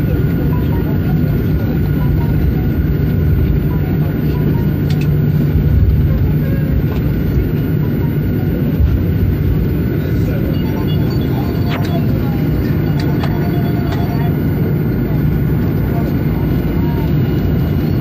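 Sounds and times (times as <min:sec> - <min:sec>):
airliner engines and wheels rumbling: 0:00.0 - 0:18.0
faint steady whine: 0:00.0 - 0:18.0.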